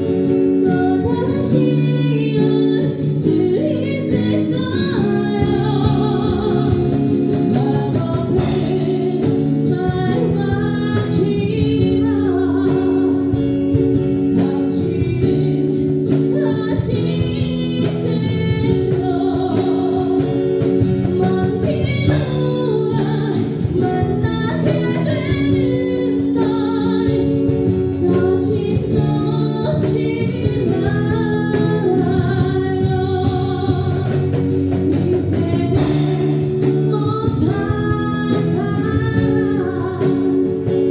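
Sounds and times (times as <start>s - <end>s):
ballad music: 0.0s - 40.9s.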